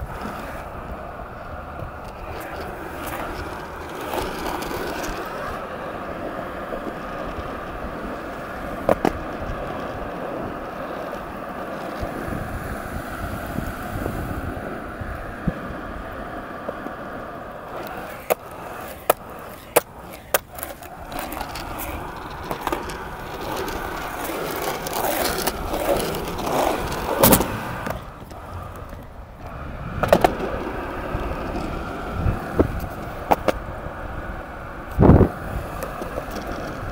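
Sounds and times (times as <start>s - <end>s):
skateboard clacking on ground: 0.0s - 36.9s
skateboard rolling on concrete: 0.0s - 36.9s.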